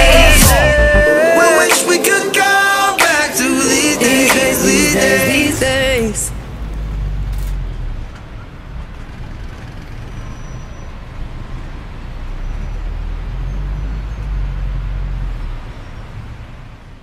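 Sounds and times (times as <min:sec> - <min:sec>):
car engine rumble: 0:02.3 - 0:17.0.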